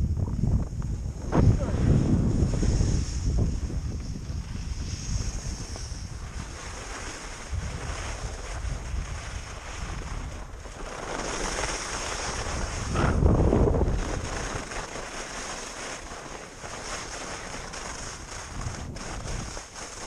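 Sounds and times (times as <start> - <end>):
wind on microphone: 0.0 - 20.0
skis sliding on snow: 0.7 - 20.0.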